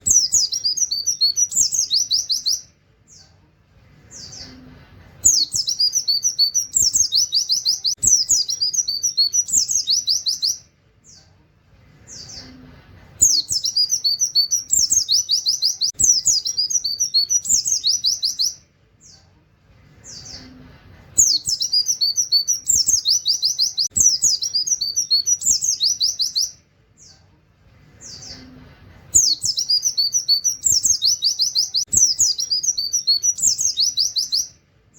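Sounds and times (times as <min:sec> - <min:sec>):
bird chirping: 0:00.0 - 0:11.4, 0:12.0 - 0:19.4, 0:20.0 - 0:20.6, 0:21.2 - 0:34.6.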